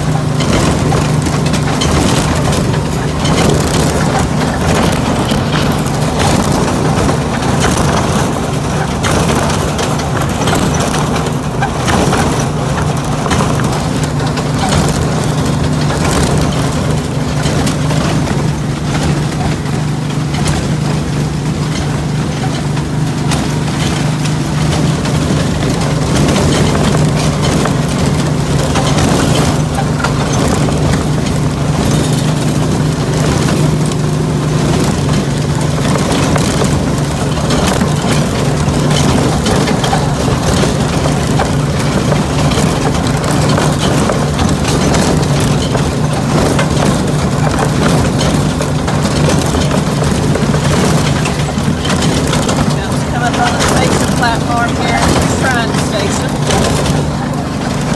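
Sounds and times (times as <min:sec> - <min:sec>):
low engine hum: 0:00.0 - 0:57.9
train wheels clattering on rails: 0:00.0 - 0:57.9.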